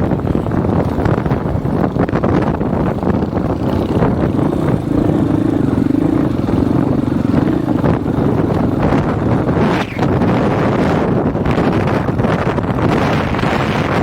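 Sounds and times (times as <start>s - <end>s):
dirt bike engine running: 0.0s - 14.0s
wind buffeting microphone: 0.0s - 14.0s.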